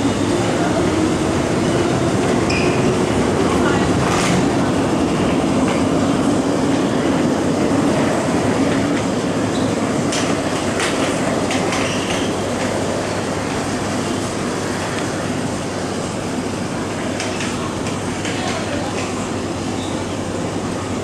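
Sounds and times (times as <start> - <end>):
metro train rumbling through station: 0.0 - 21.0.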